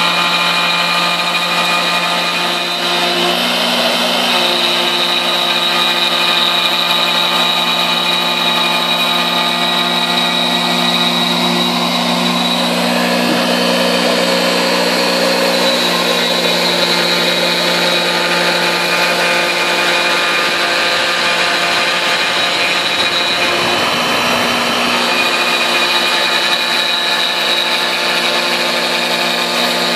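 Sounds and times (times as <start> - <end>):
router bit cutting wood: 0.0 - 29.9
router spindle whining: 0.0 - 29.9.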